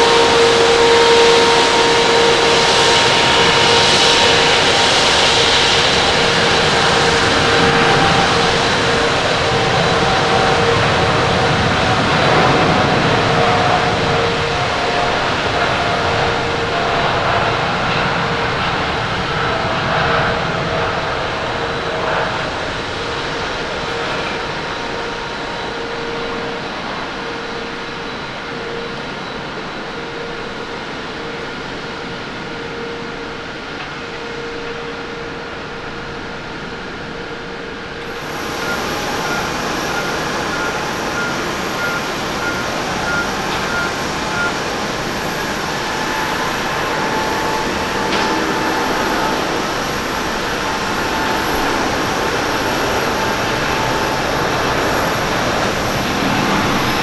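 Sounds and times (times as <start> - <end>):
jet engine whine at taxi: 0.0 - 57.0
jet engines at takeoff: 0.0 - 57.0.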